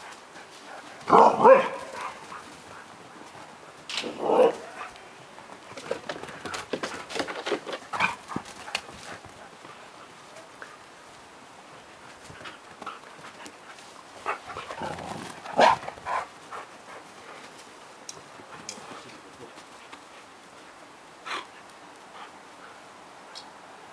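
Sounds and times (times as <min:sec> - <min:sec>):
dogs playing: 0:00.0 - 0:23.4.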